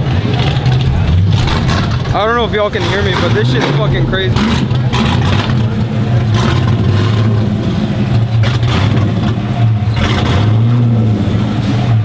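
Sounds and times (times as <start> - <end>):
car engines droning: 0.0 - 12.0.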